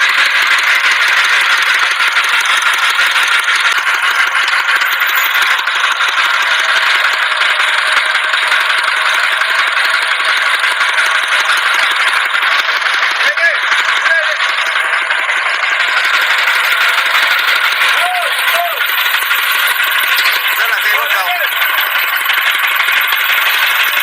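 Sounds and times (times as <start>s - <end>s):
truck engine idling with rattle: 0.0s - 24.0s.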